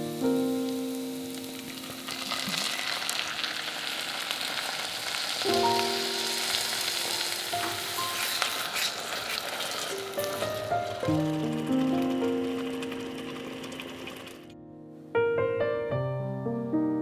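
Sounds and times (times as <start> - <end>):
soft piano notes: 0.0 - 4.8, 5.4 - 8.9, 9.8 - 17.0
vegetables sizzling in oil: 0.0 - 14.5.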